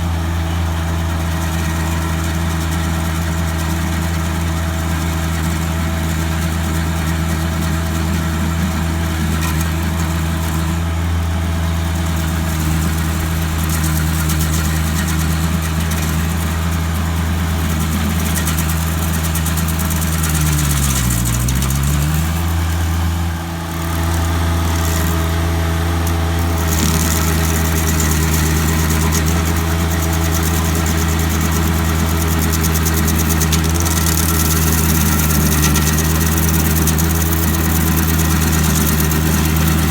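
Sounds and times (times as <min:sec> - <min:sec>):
stump grinder engine running: 0:00.0 - 0:39.9.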